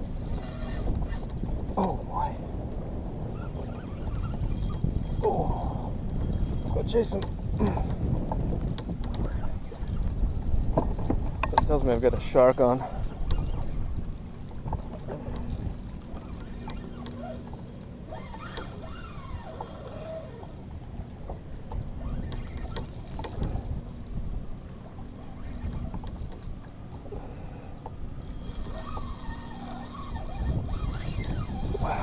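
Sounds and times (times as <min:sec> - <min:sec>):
water lapping against hull: 0:00.0 - 0:32.0
wind on microphone: 0:00.0 - 0:32.0.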